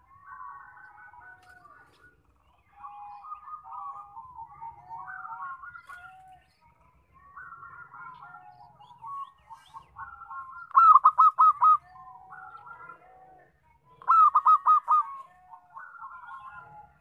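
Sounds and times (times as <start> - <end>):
dove cooing: 0.0 - 6.4, 7.1 - 17.0.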